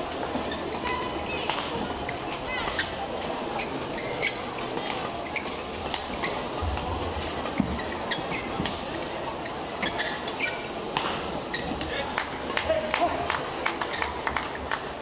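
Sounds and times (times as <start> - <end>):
crowd and hall noise: 0.0 - 15.0.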